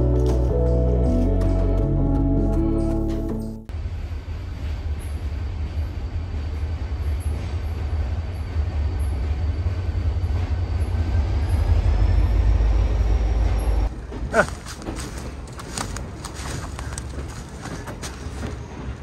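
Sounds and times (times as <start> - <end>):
passenger train rumbling past: 3.7 - 19.0.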